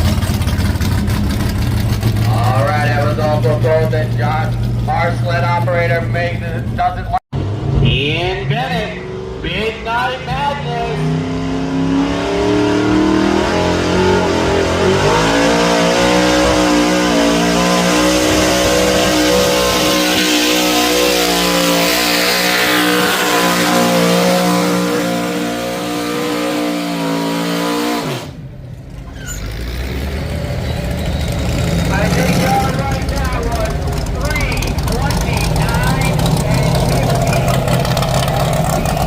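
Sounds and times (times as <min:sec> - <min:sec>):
truck engine at full throttle: 0:00.0 - 0:39.0.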